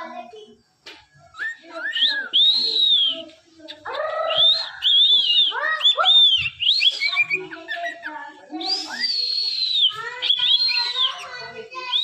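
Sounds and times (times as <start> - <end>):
cockatiel whistling: 1.4 - 3.3, 4.2 - 12.0.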